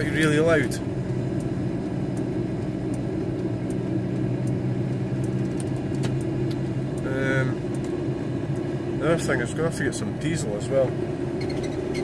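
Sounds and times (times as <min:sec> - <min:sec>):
diesel engine and road noise drone: 0:00.0 - 0:12.0.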